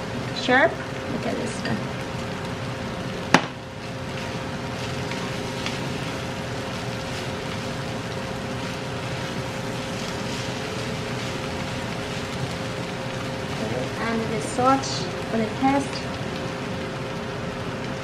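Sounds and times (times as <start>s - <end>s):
faint hum: 0.0s - 18.0s
food sizzling in a frying pan: 0.0s - 18.0s.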